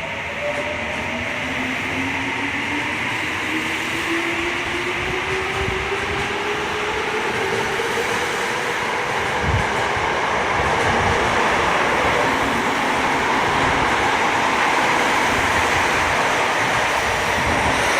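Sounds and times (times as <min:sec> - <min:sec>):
rail running noise: 0:00.0 - 0:17.9.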